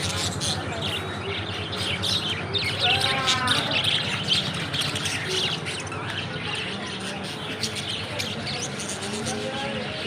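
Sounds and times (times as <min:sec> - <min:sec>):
parrots chirping and squawking: 0:00.0 - 0:10.0.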